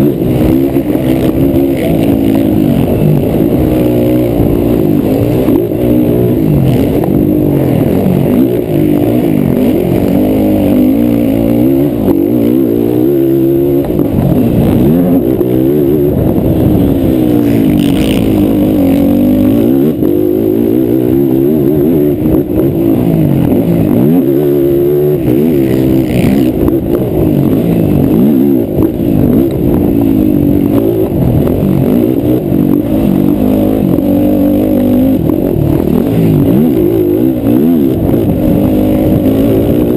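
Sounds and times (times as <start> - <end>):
quad engine revving hard: 0.0 - 39.9.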